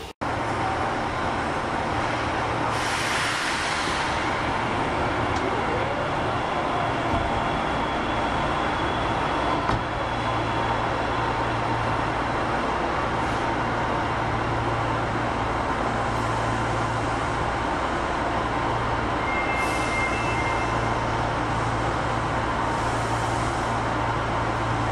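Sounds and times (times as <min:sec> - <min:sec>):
subway train equipment hum: 0:00.0 - 0:24.9.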